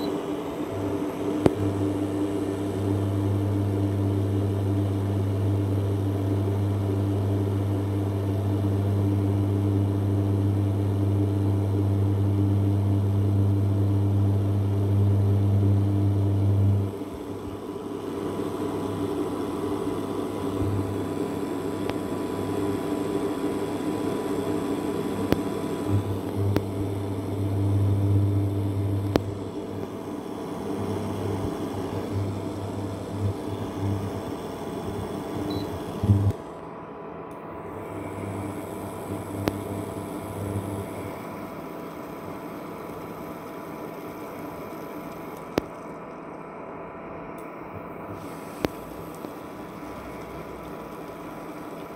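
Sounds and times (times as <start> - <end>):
cooling fan whirring: 0.0 - 51.9
induction cooktop humming: 0.0 - 51.9.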